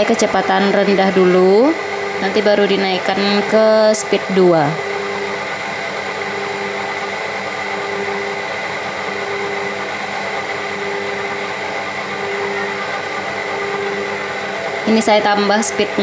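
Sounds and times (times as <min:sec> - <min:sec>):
stand mixer motor running: 0:00.0 - 0:16.0.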